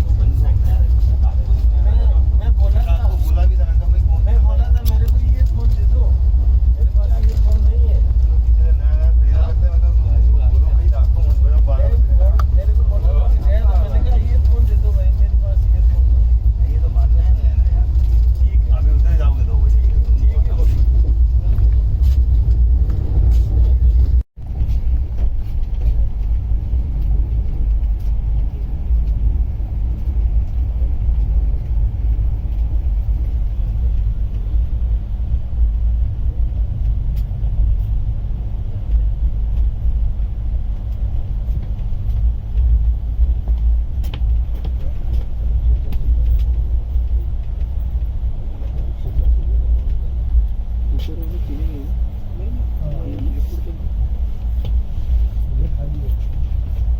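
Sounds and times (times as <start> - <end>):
train rumbling: 0.0 - 56.9.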